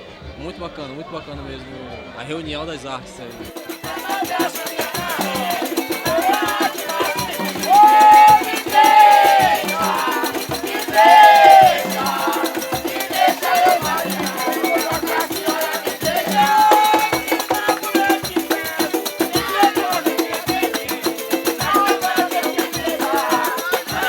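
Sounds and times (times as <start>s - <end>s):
upbeat percussive dance music: 3.3s - 24.0s.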